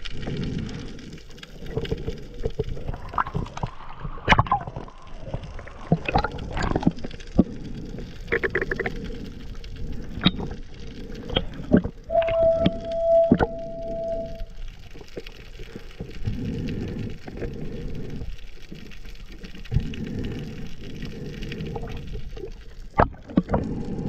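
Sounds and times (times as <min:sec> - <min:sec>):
underwater rush of water: 0:00.0 - 0:24.0.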